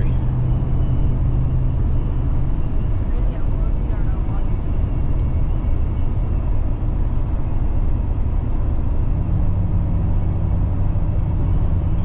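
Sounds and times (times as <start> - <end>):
truck engine and tyre drone: 0.0 - 12.0.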